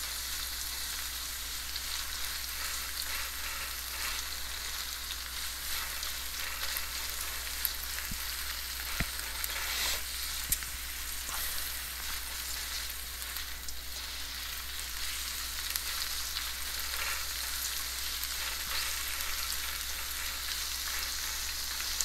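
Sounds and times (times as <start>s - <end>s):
onions sizzling in oil: 0.0s - 22.0s
spatula scraping a pan: 1.8s - 22.0s.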